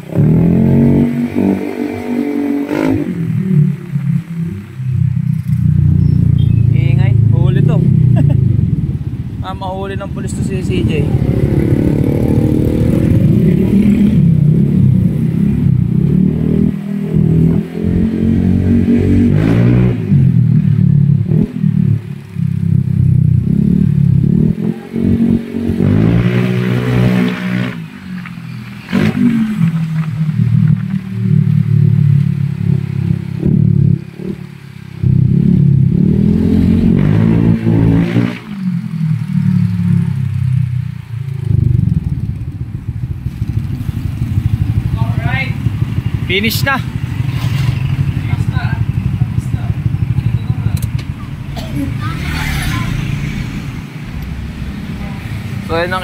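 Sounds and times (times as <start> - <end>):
scooter engine revving: 10.4 - 56.0.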